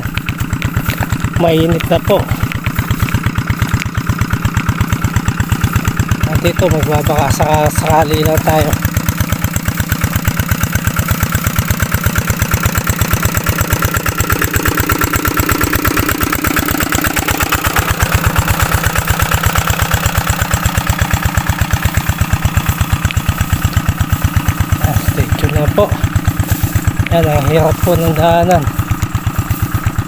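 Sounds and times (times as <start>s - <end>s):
small engine idling: 0.0s - 30.0s.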